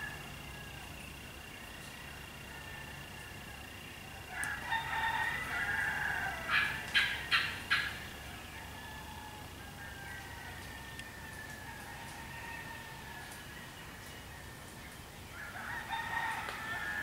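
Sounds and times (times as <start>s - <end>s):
rooster crowing: 0.0s - 17.0s.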